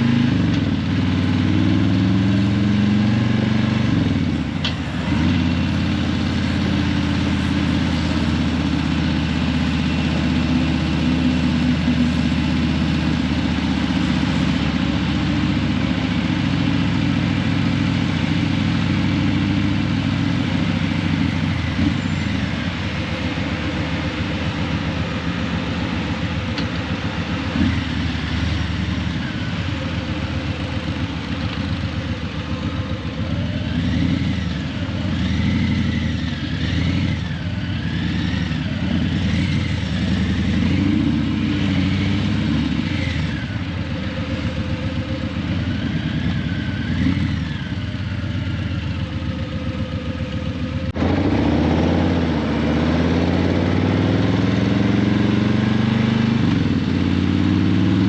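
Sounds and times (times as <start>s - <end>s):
motorcycle engine at low revs: 0.0s - 58.0s.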